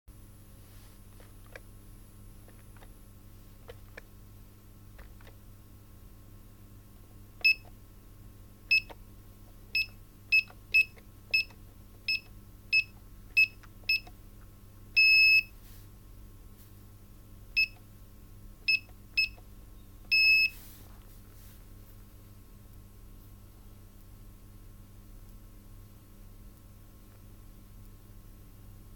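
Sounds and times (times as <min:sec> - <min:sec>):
faint steady hum: 0:00.1 - 0:28.9.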